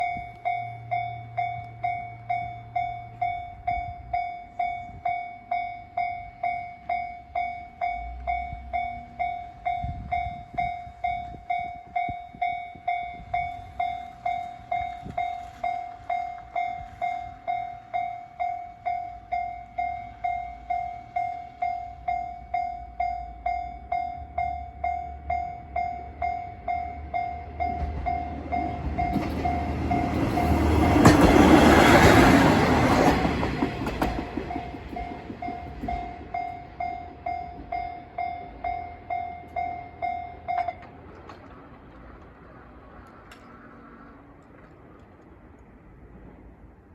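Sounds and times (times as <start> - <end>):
level-crossing warning bell ringing: 0.0 - 41.6
approaching train rumble: 0.0 - 46.9.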